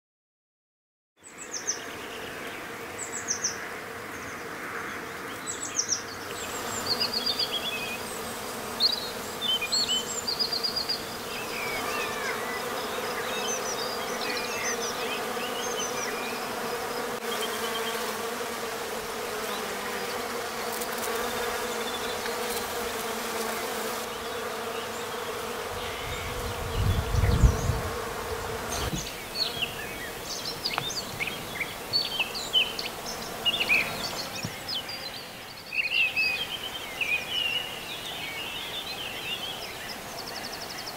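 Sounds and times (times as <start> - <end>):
bees buzzing: 1.2 - 40.9
small birds chirping: 5.3 - 18.5, 19.1 - 40.9.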